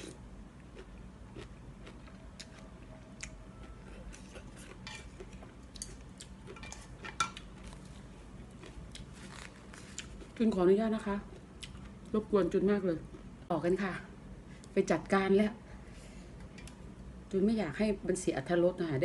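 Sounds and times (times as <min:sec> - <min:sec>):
quiet eating sounds: 0:00.0 - 0:17.3.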